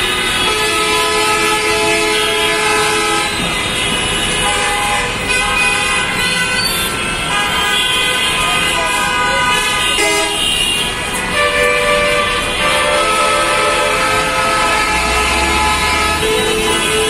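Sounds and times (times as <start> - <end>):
rumble of stopped traffic: 0.0 - 17.0
vehicle horns blaring: 0.0 - 17.0.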